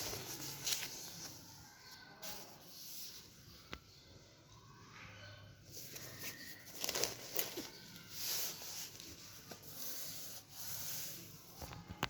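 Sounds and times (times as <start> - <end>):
rubbing and rustling: 0.0 - 3.7, 5.7 - 12.0.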